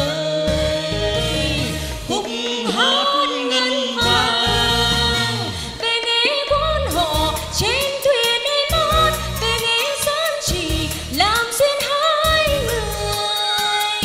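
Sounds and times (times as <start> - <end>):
band backing music: 0.0 - 14.0
man and woman singing duet: 0.0 - 14.0.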